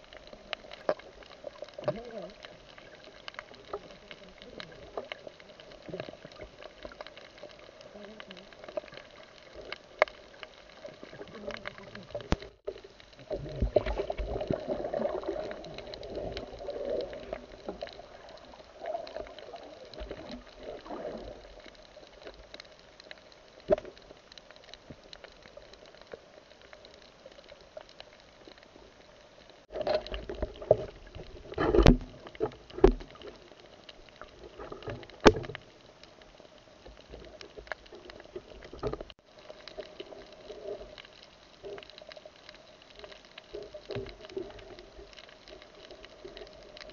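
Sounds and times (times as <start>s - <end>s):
muffled underwater water movement: 0.0s - 46.9s.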